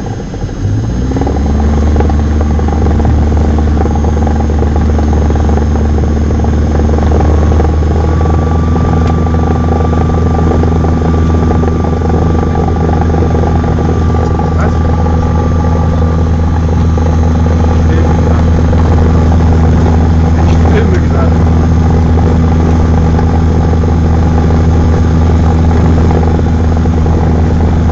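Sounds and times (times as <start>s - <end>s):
propeller plane engine running: 0.0s - 27.9s.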